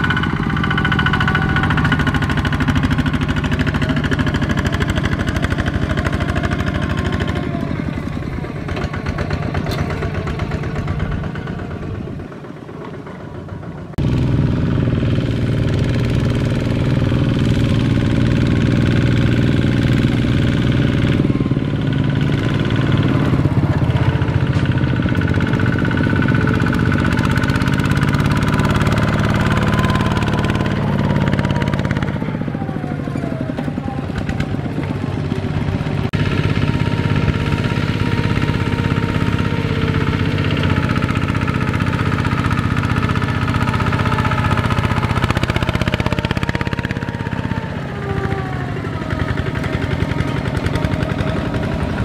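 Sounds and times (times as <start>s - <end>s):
diesel engine running under load: 0.0s - 52.0s.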